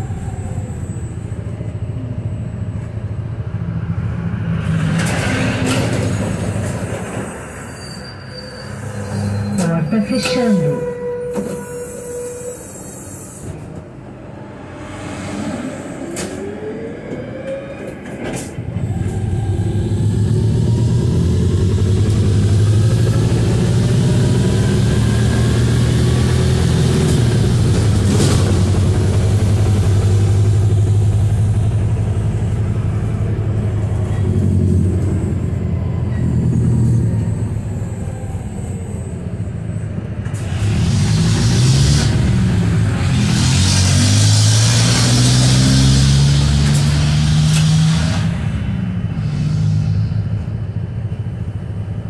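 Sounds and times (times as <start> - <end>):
bus diesel engine running: 0.0 - 12.2, 18.3 - 52.0.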